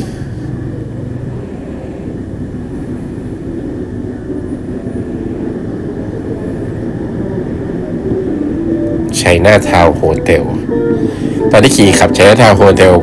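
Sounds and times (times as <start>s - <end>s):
motorcycle engine drone: 0.0s - 13.0s
street traffic: 0.0s - 13.0s.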